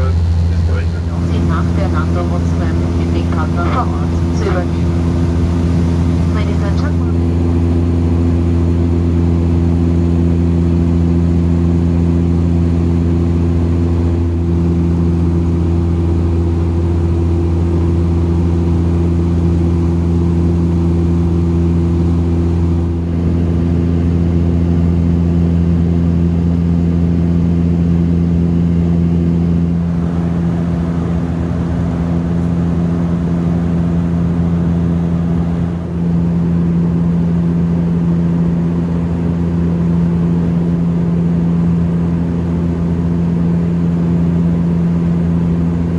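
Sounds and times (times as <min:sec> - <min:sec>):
airliner cabin engine drone: 0:00.0 - 0:45.9.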